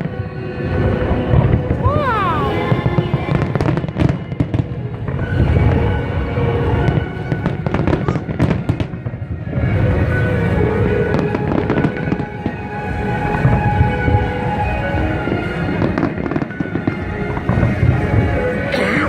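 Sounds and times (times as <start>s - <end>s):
fireworks bangs and crackles: 0.0s - 18.7s
music playing: 0.0s - 19.0s.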